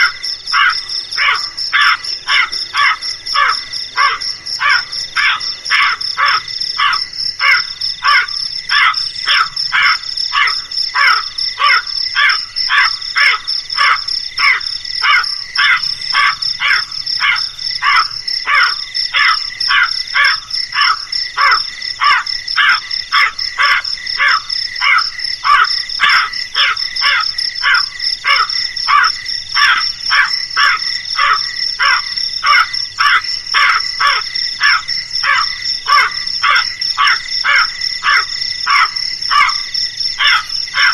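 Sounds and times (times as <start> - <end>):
crows cawing: 0.0 - 40.9.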